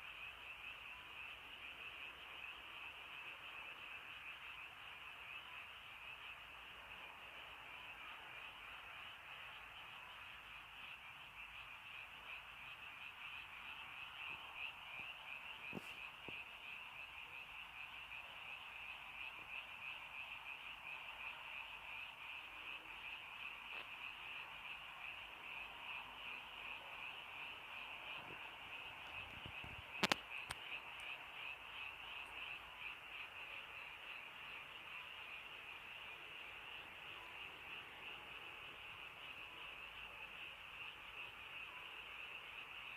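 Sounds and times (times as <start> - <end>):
chorus of frogs trilling: 0.0 - 42.9.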